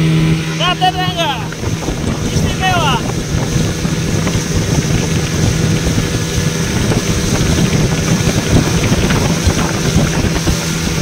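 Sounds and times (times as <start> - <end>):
outboard motor running: 0.0 - 11.0
water rushing: 0.0 - 11.0
wind buffeting microphone: 0.0 - 11.0.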